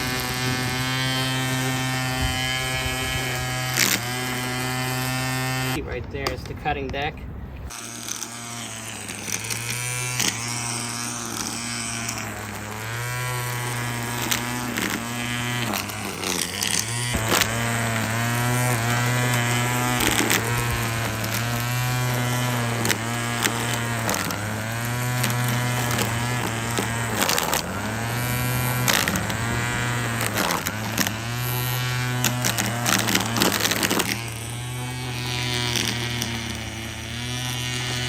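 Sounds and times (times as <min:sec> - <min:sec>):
string trimmer motor whirring: 0:00.0 - 0:38.0.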